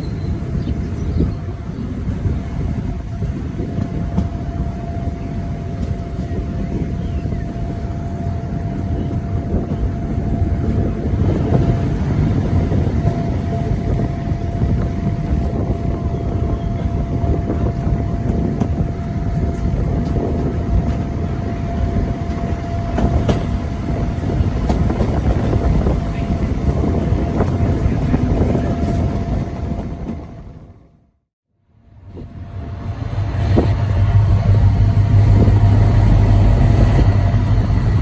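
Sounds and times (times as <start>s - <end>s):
diesel locomotive engine rumbling: 0.0s - 38.0s.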